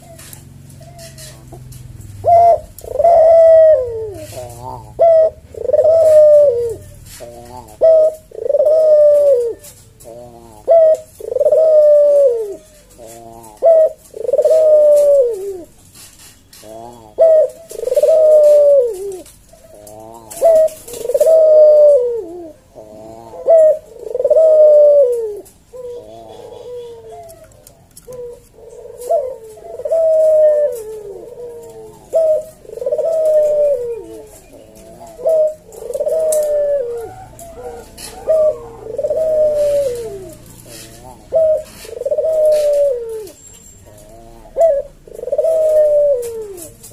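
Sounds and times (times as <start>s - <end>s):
dove cooing: 0.0s - 46.9s.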